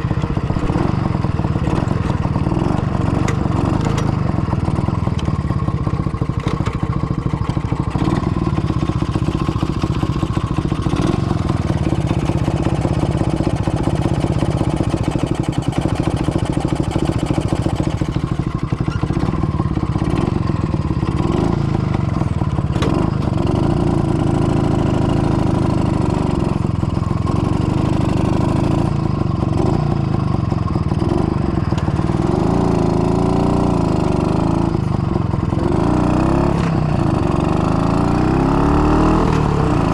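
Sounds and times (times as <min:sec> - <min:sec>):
two-stroke motorcycle engine: 0:00.0 - 0:39.9.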